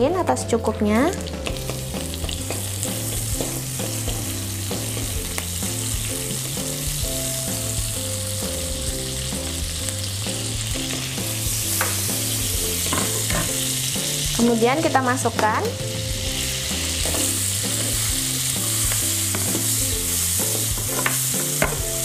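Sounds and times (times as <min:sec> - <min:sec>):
margarine sizzling in wok: 0:00.0 - 0:22.0.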